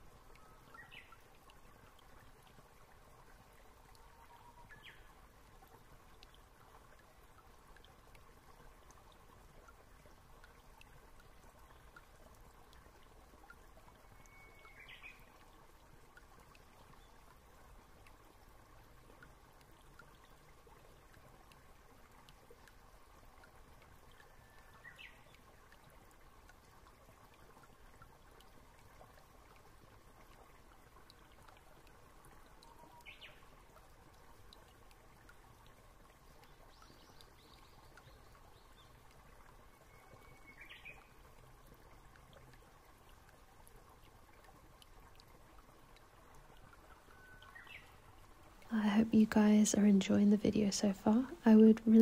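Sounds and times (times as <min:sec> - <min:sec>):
faint room hiss: 0:00.0 - 0:52.0.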